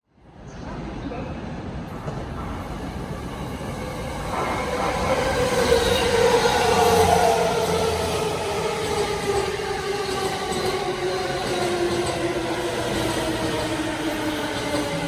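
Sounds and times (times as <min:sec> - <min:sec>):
electric train rumbling: 0:00.3 - 0:15.0.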